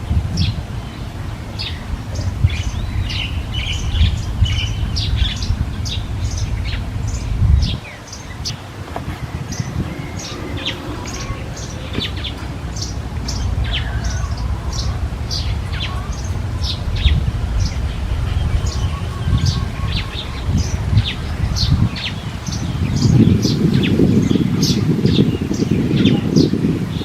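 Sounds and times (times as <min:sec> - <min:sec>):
small birds chirping: 0:00.0 - 0:27.0
steady low rumble: 0:00.0 - 0:27.0.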